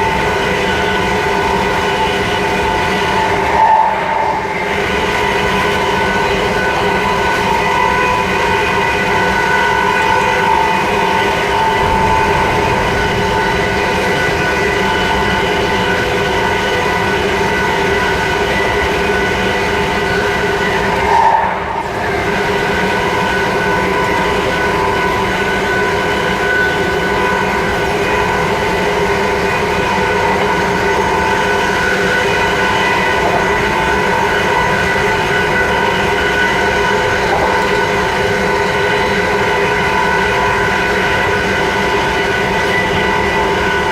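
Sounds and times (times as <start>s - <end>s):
electric train traction whine: 0.0s - 43.9s
wheels rumbling on rail: 0.0s - 43.9s.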